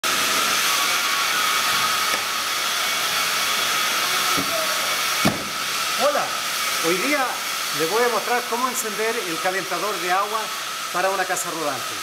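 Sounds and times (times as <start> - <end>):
fan-like rushing noise: 0.0 - 12.0.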